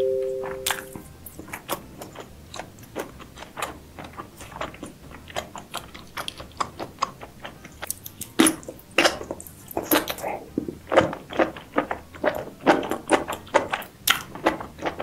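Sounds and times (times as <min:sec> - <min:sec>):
seafood eating clicks and crackles: 0:01.3 - 0:15.0.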